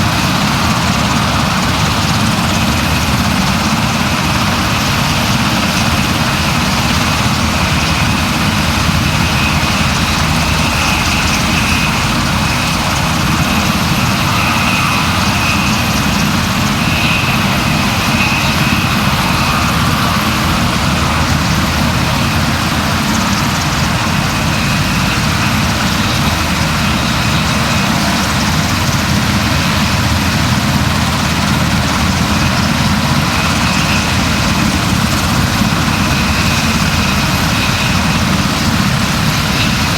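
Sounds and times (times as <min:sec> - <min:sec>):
loud engine drone: 0:00.0 - 0:39.9.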